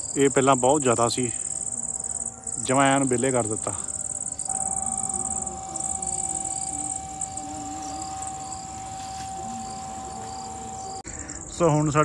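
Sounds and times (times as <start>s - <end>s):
crickets trilling: 0.0s - 12.0s
faint hum: 1.1s - 11.9s.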